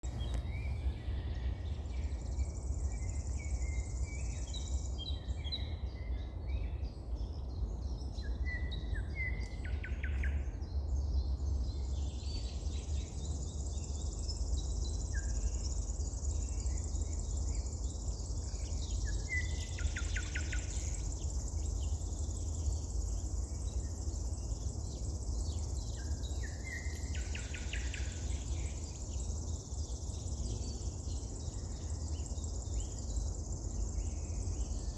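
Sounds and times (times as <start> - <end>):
wild birds singing: 0.0 - 34.9.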